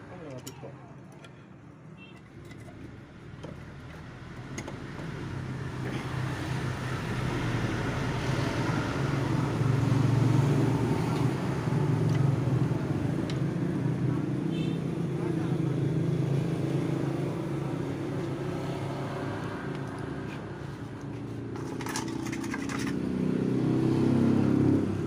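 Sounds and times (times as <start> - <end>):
vehicle engine hum and road noise: 0.0 - 25.0.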